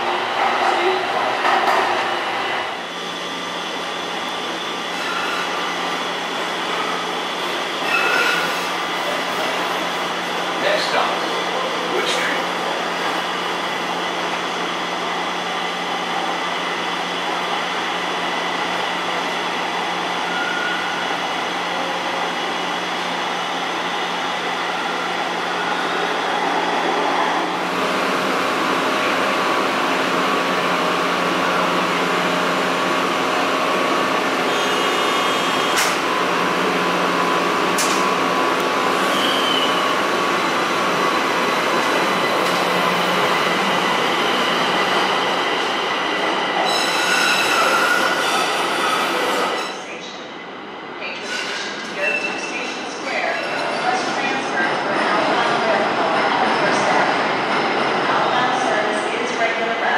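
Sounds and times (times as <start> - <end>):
rail car running hum: 0.0 - 59.9.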